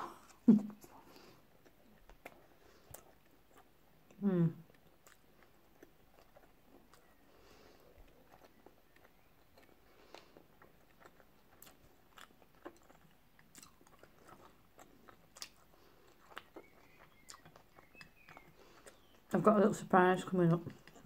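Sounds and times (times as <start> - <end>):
faint chewing: 0.0 - 21.0.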